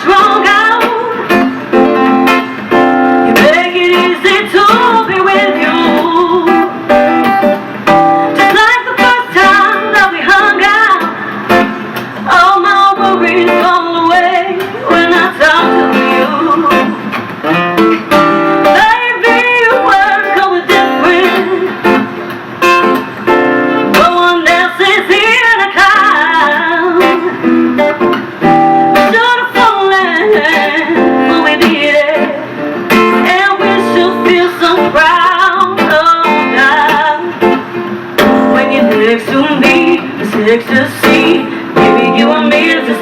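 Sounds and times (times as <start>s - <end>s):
woman singing: 0.0s - 6.9s, 8.3s - 17.1s, 18.6s - 22.1s, 23.8s - 27.5s, 28.9s - 37.6s, 38.2s - 43.0s
strummed guitar: 0.0s - 43.0s.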